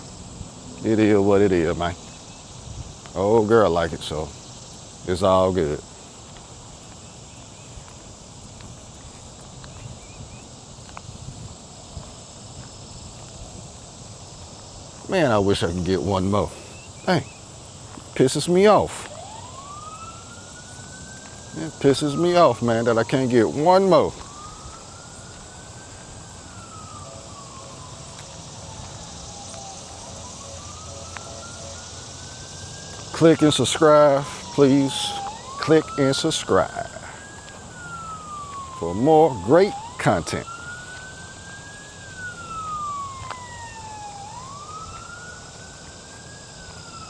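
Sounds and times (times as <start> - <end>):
siren wailing: 0.0 - 47.0.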